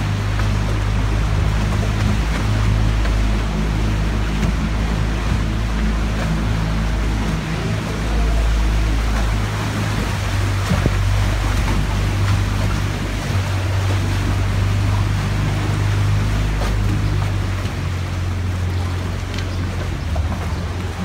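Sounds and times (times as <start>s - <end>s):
motorboat engine humming: 0.0s - 21.0s
rushing water: 0.0s - 21.0s
wind: 0.0s - 21.0s.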